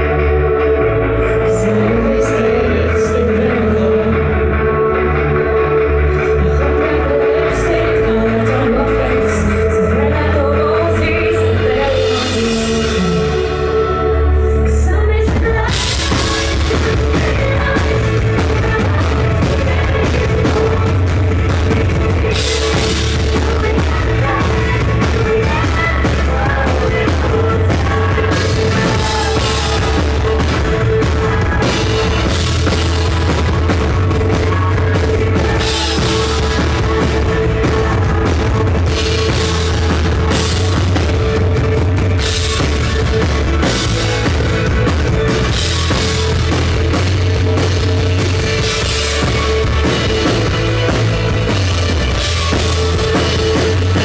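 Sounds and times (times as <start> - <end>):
drum kit: 0.0 - 54.0
live rock band playing: 0.0 - 54.0.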